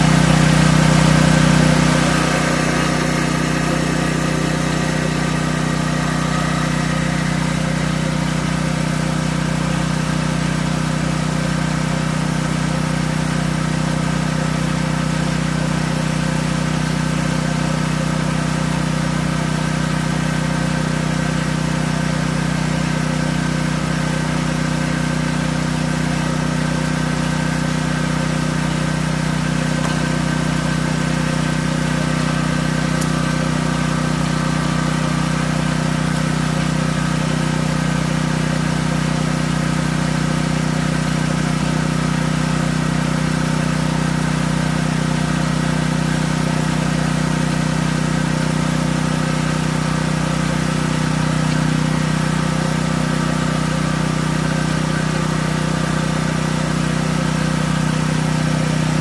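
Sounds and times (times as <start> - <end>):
generator engine running: 0.0 - 59.0.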